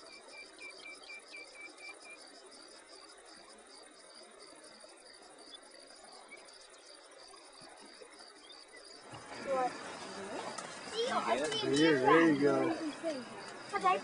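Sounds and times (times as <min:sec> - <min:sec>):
insects chirping: 0:00.0 - 0:14.0
lower insect chirp: 0:00.0 - 0:14.0.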